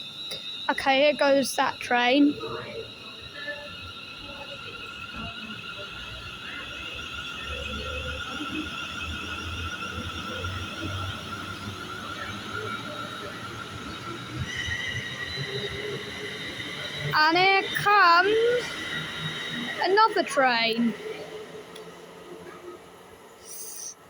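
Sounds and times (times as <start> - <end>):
electric train whine: 0.0 - 24.0
train low rumble: 0.0 - 24.0.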